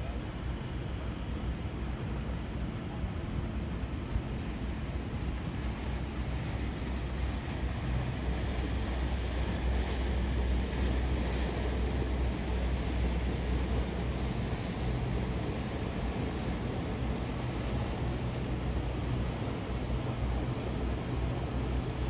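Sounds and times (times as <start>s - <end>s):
boat engines rumbling: 0.2s - 22.0s
water wash: 3.7s - 22.0s.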